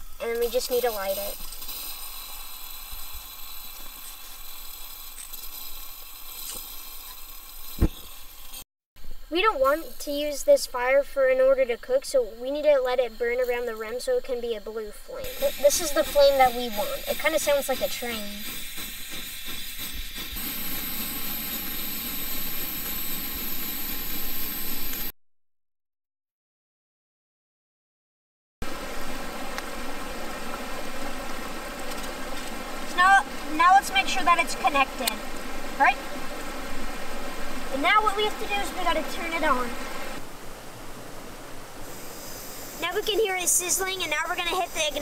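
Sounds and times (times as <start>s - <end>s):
stove burner hiss: 0.0s - 14.6s, 15.2s - 25.1s, 28.6s - 45.0s.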